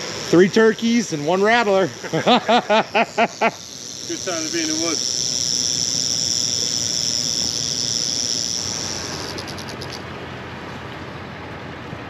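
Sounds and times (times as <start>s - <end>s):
rattlesnake rattling: 0.0s - 10.1s.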